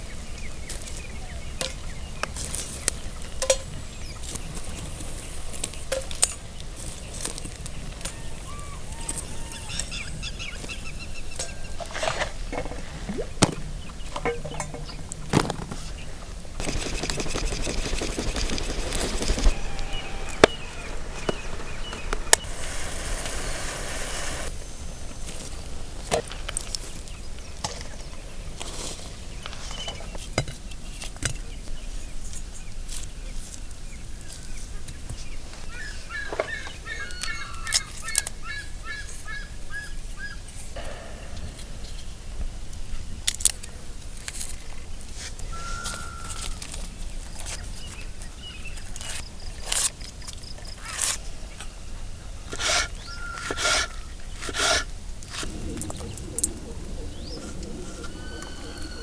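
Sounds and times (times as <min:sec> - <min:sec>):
birds chirping: 0:00.0 - 0:28.5, 0:34.3 - 0:43.8, 0:44.9 - 0:59.0.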